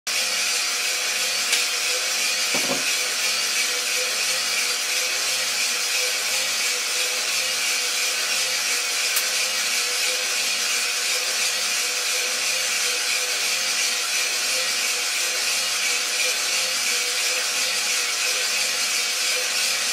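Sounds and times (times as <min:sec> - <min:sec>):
motor hum: 0:00.1 - 0:19.9
coffee roaster air hiss: 0:00.2 - 0:19.9.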